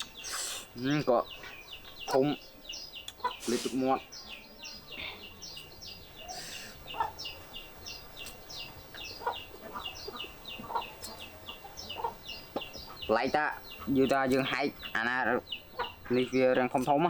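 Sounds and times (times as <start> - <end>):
poultry chirping: 0.0 - 17.0
poultry clucking: 0.0 - 17.0.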